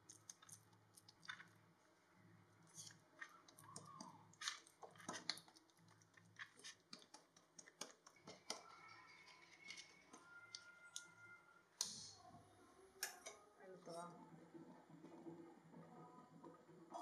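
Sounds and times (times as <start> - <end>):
dough crackles and squishes: 0.0 - 17.0.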